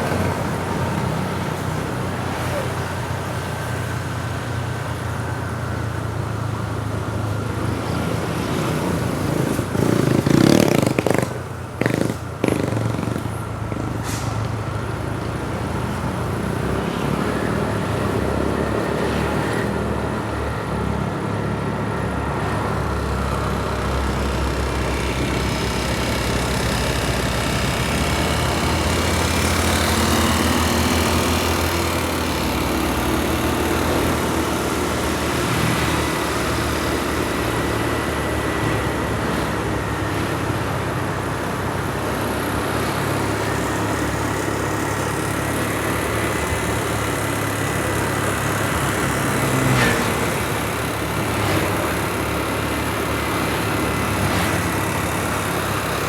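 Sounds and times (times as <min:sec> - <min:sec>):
motor vehicles passing: 0:00.0 - 0:56.0
steady engine hum: 0:00.0 - 0:56.0.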